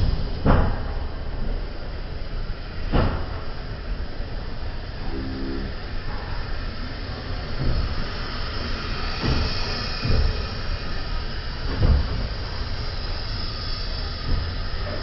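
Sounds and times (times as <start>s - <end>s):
low thumps from train wheels: 0.0s - 5.1s, 5.7s - 15.0s
train rumble: 0.0s - 15.0s.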